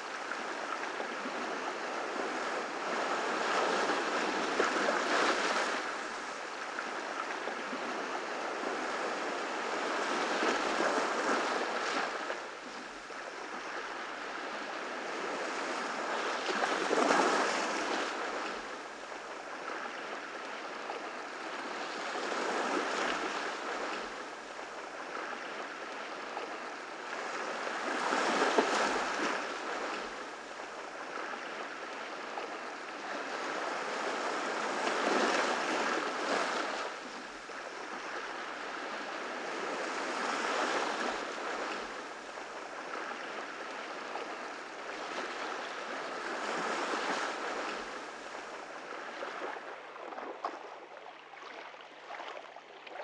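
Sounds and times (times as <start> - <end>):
ocean waves breaking: 0.1 - 53.0.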